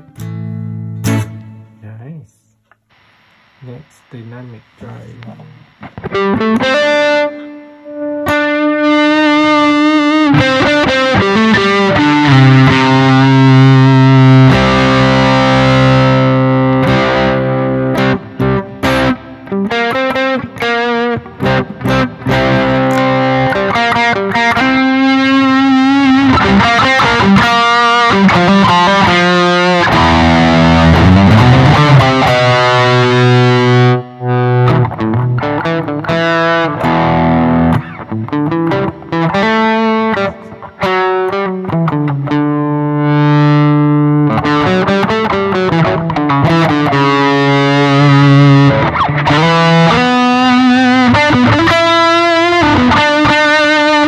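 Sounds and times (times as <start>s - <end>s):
overdriven electric guitar chords: 0.0s - 54.0s.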